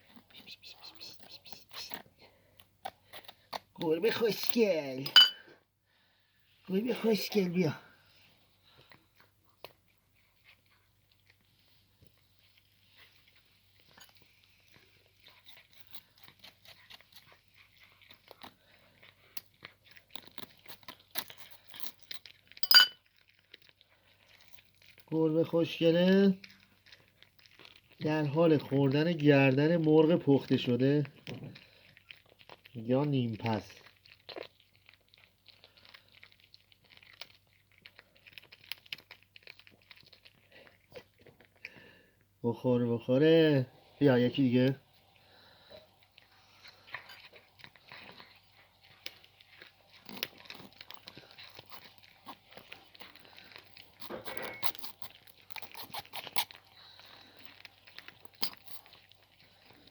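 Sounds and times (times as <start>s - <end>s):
cat crunching chicken bones: 0.0s - 5.6s, 6.8s - 42.3s, 43.8s - 59.9s.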